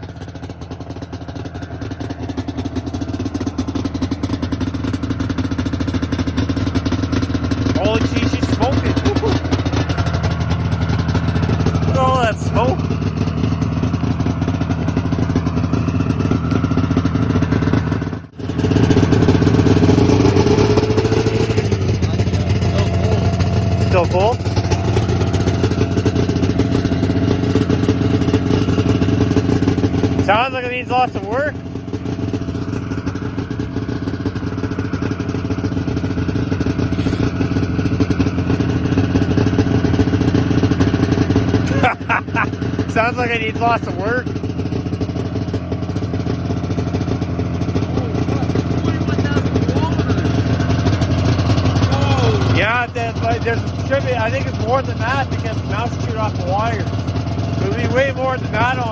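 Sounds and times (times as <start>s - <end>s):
two-stroke snowmobile engine revving: 0.0s - 58.9s.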